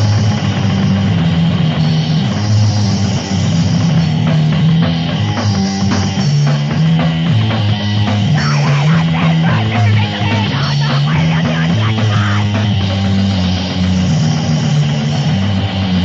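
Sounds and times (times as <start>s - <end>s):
distorted hardcore punk music: 0.0s - 16.0s.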